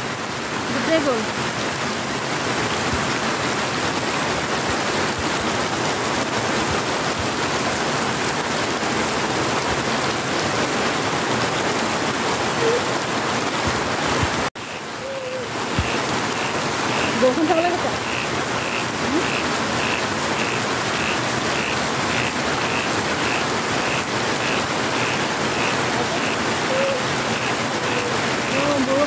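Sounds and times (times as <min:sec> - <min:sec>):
heavy rain splashing into water: 0:00.0 - 0:29.0.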